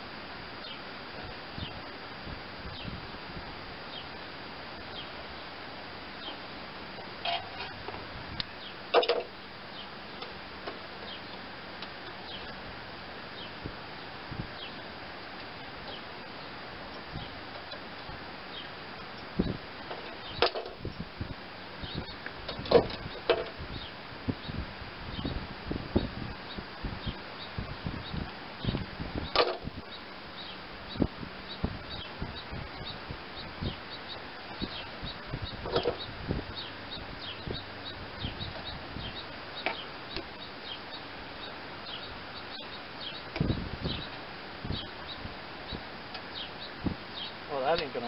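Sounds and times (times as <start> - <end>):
steady background hiss: 0.0 - 48.0
birds chirping: 0.5 - 1.9, 2.7 - 3.0, 3.8 - 21.1, 21.7 - 48.0.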